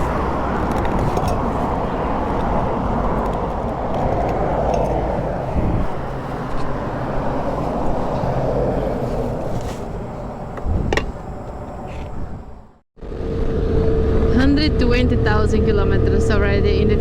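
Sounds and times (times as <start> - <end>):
motorcycle engine hum: 0.0 - 17.0
road noise: 0.0 - 17.0
wind rushing on microphone: 0.0 - 17.0.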